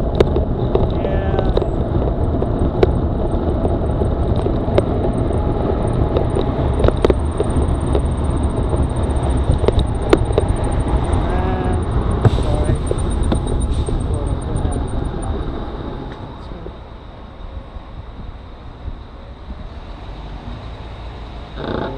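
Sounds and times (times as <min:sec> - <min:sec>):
road noise from bicycle: 0:00.0 - 0:21.9
wind: 0:00.0 - 0:21.9.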